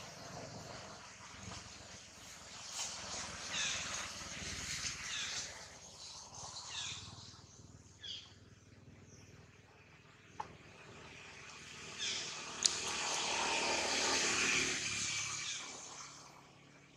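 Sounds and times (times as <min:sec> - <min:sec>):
outdoor background noise: 0:00.0 - 0:16.9.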